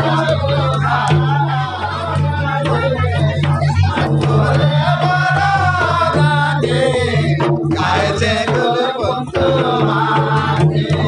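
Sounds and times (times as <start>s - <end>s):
drums: 0.0s - 11.0s
men singing through loudspeaker: 0.0s - 11.0s.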